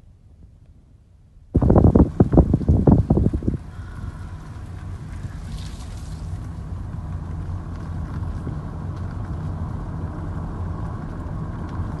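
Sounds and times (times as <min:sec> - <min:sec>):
vehicle engine and road noise: 0:00.1 - 0:12.0.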